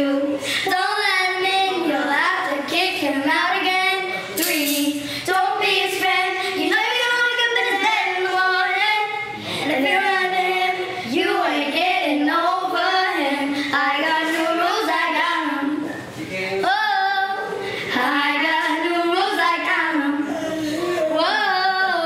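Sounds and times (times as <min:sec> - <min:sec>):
girls singing a pop song: 0:00.0 - 0:22.0.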